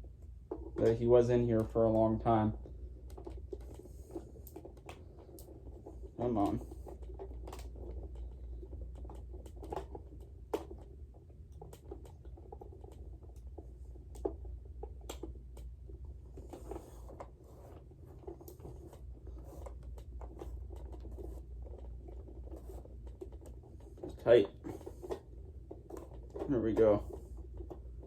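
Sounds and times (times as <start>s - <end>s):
low steady hum: 0.0s - 28.0s
plastic clicks and scrapes: 0.2s - 28.0s.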